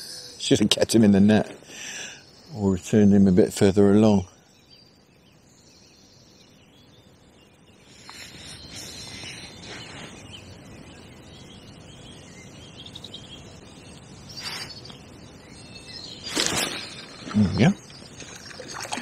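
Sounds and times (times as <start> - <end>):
outdoor background noise: 0.0 - 19.0
songbirds chirping: 0.0 - 19.0.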